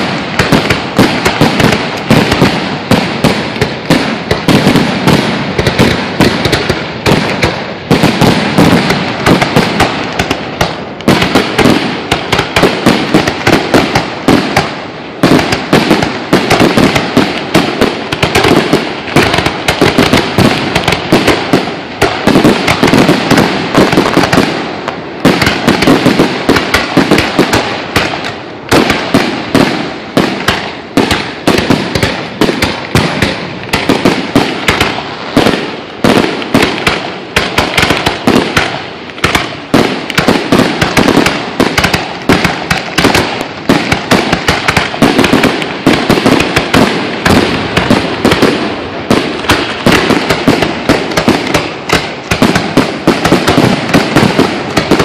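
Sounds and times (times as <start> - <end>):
fireworks bangs and cracks: 0.0 - 55.0.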